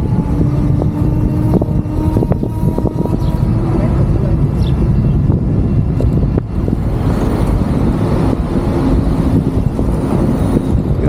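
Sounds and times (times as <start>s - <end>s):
road and wind rumble: 0.0s - 11.0s.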